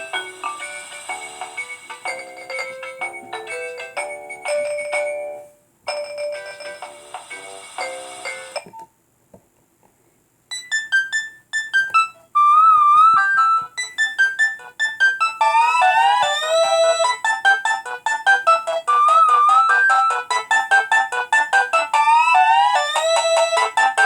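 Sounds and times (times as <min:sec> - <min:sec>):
polyphonic ringtone melodies: 0:00.0 - 0:08.8, 0:10.5 - 0:24.0.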